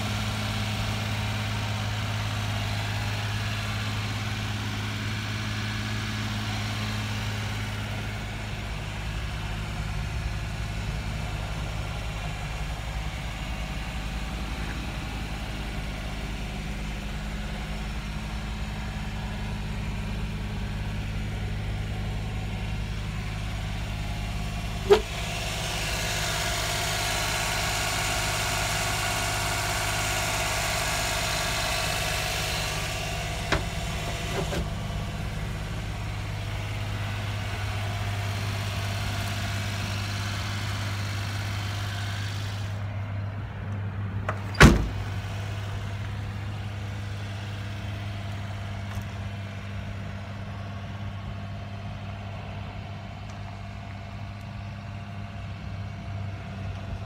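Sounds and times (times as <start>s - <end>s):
small engine idling: 0.0s - 57.0s.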